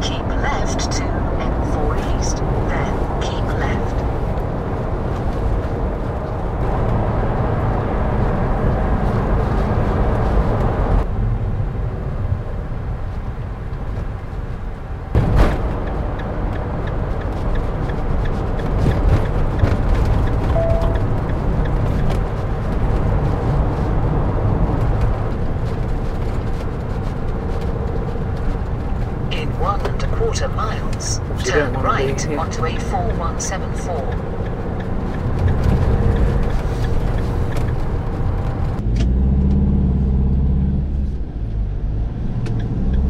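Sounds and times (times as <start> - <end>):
vehicle road and engine noise: 0.0 - 43.0.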